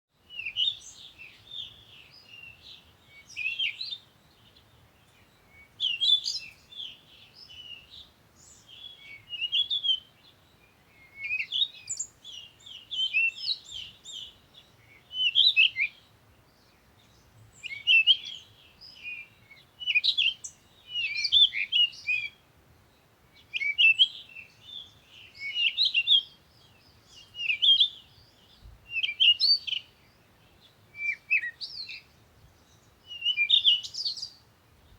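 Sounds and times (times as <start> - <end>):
songbirds twittering: 0.2 - 34.9.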